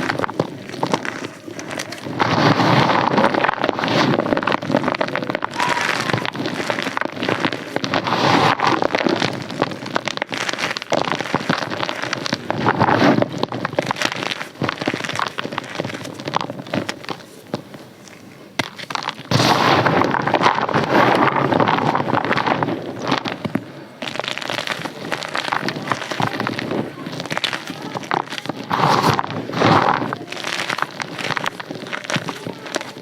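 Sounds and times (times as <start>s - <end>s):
close-up crunching and crackling: 0.0s - 33.0s.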